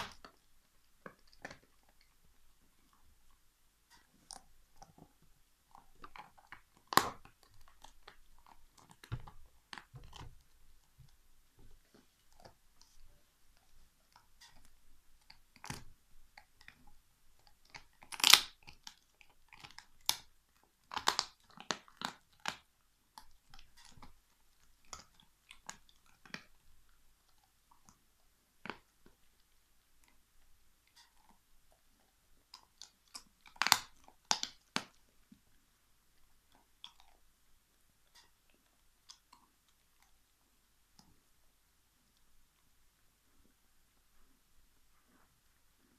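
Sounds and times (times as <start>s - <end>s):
dog gnawing and crunching bone: 0.0s - 37.4s, 38.0s - 41.2s.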